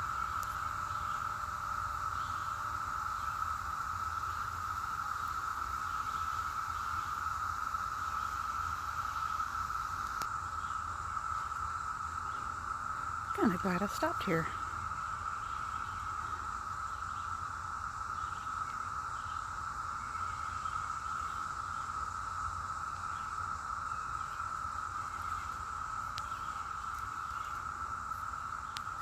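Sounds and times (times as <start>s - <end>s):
cicadas buzzing: 0.0s - 29.0s.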